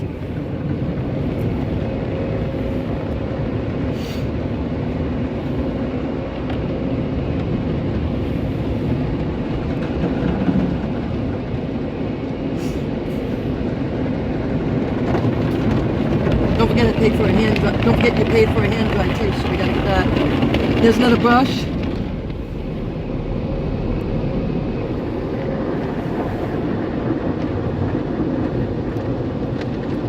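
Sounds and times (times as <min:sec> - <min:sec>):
car wash rumbling: 0:00.0 - 0:30.0.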